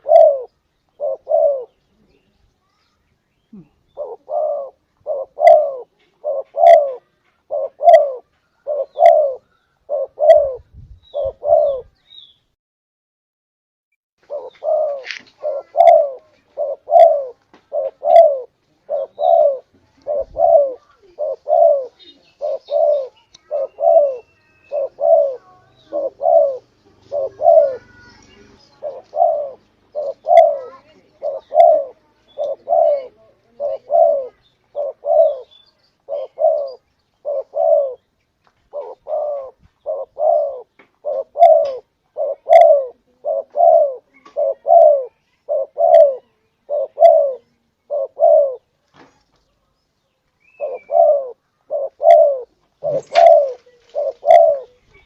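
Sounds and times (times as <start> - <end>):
dove cooing: 0.0 - 2.2, 3.5 - 12.0, 14.2 - 38.1, 38.7 - 48.7, 50.5 - 55.0.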